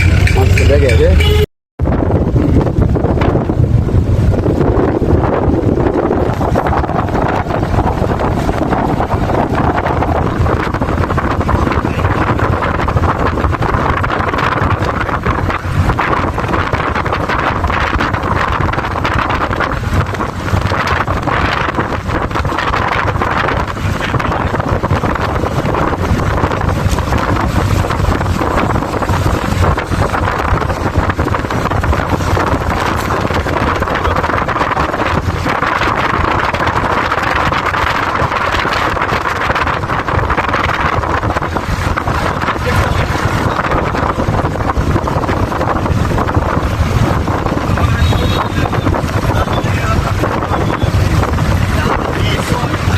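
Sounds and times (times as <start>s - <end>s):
vehicle running rumble: 0.0s - 52.9s
wind buffeting microphone: 0.0s - 52.9s.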